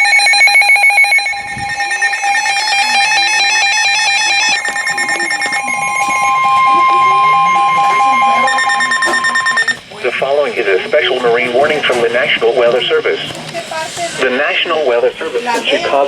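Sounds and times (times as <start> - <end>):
rapid electronic beeping: 0.0 - 16.0
steady warning alert tone: 0.0 - 16.0
warbling data bursts: 0.0 - 16.0.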